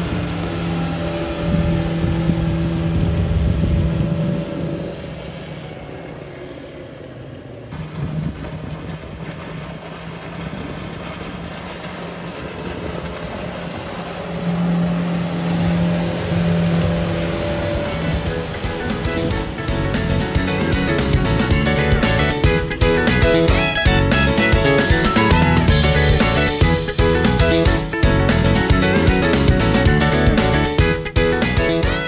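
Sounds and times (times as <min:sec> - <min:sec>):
outboard motor running: 0:00.0 - 0:32.0
water rushing from boat wake: 0:00.0 - 0:32.0.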